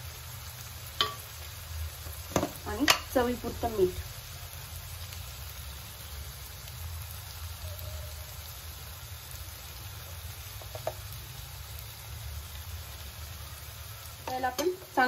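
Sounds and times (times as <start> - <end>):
potato filling sizzling in a pan: 0.0 - 15.0.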